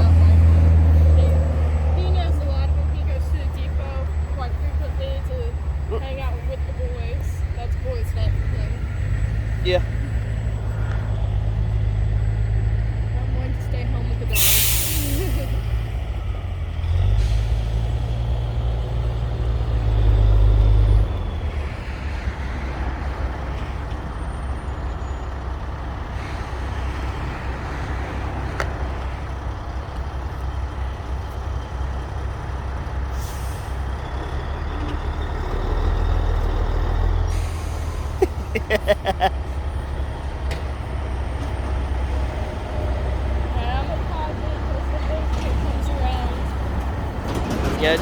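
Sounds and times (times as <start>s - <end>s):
diesel engine rumbling: 0.0s - 48.0s.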